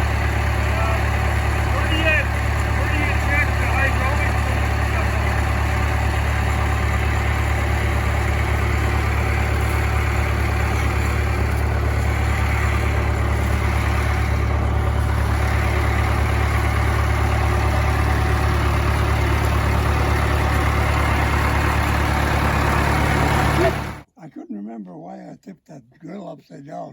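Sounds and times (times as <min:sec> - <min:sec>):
tractor engine humming: 0:00.0 - 0:24.1.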